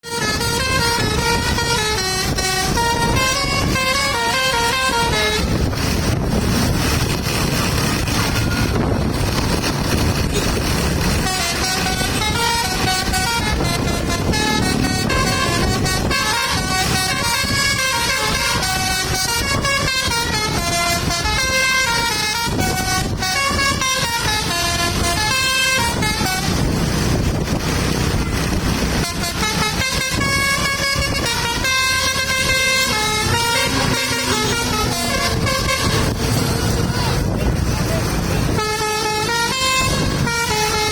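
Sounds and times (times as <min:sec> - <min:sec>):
air horns playing a melody: 0:00.0 - 0:09.3, 0:10.2 - 0:40.9
low rumbling noise: 0:00.0 - 0:40.9.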